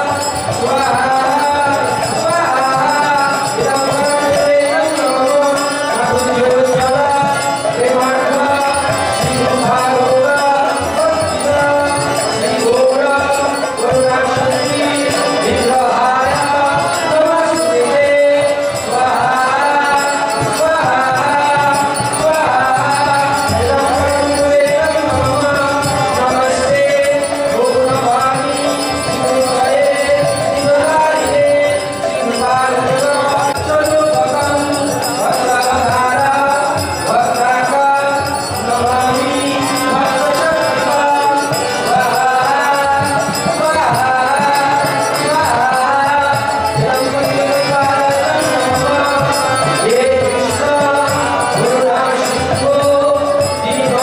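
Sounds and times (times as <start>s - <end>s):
devotional singing to music: 0.0s - 54.0s
jingling hand percussion: 0.0s - 54.0s.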